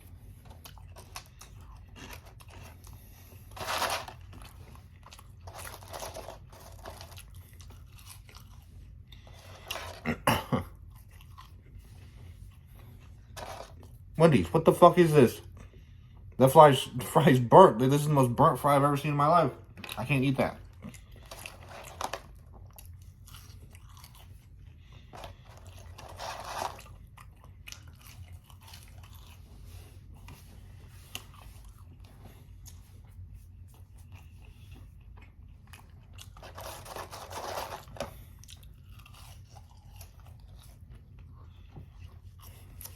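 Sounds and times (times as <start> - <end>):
chewing fries: 0.0 - 16.7, 17.3 - 42.9.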